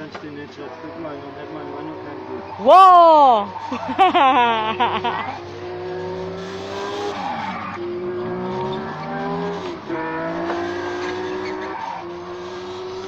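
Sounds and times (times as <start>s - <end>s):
ride-on toy kart motor whining: 0.6s - 13.0s.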